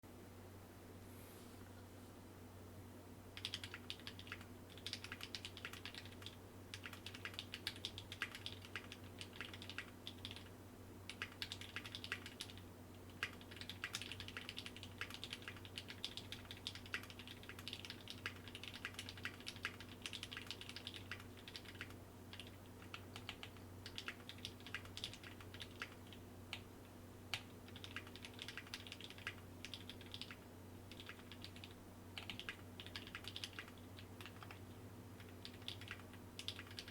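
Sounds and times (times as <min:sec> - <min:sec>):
fast typing on mechanical keyboard: 0:03.4 - 0:10.5, 0:11.1 - 0:26.6, 0:27.3 - 0:34.6, 0:35.2 - 0:36.9.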